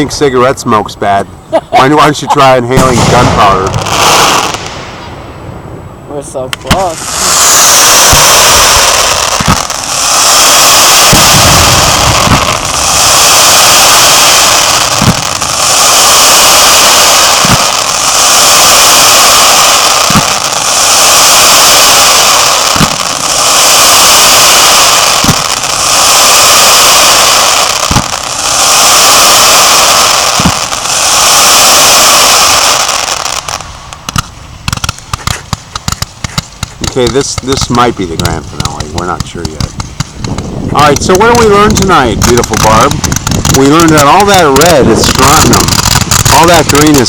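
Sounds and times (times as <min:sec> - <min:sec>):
distorted hissing noise: 0:00.0 - 0:47.0
fireworks crackling: 0:00.0 - 0:47.0.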